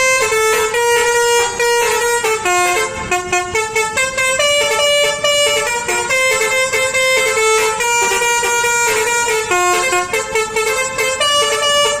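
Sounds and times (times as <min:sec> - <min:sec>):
bus air horn playing a tune: 0:00.0 - 0:12.0.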